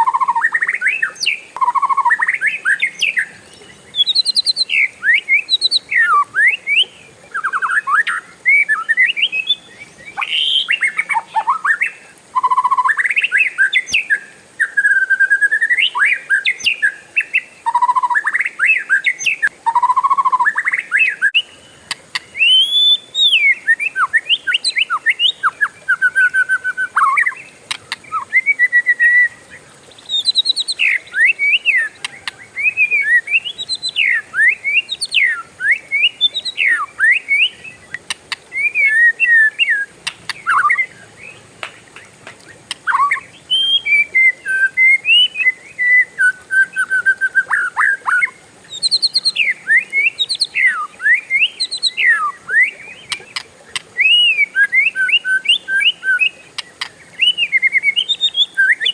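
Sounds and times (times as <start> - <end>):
bird singing varied song: 0.0 - 58.9.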